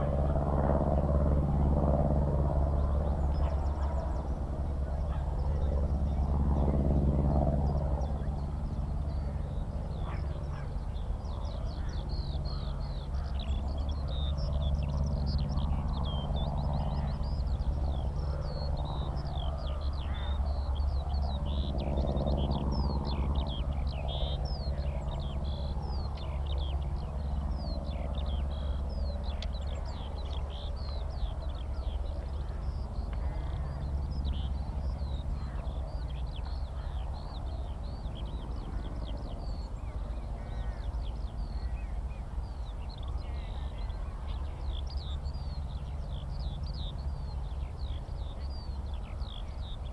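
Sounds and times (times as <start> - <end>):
propeller aircraft engine drone: 0.0 - 49.9
skylarks singing: 0.0 - 49.9.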